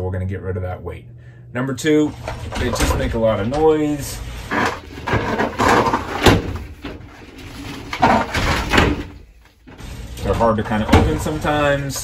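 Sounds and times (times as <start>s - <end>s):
sliding shower doors rattling and squeaking: 2.0s - 12.0s.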